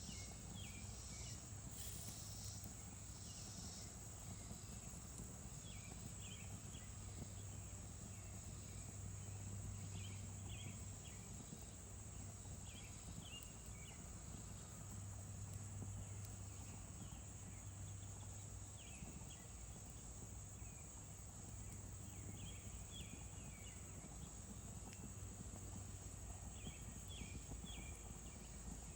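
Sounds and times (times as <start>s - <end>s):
high insect drone: 0.0s - 28.9s.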